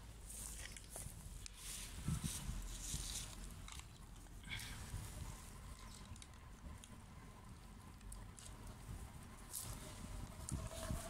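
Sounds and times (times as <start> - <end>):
cats chewing: 0.6 - 10.6.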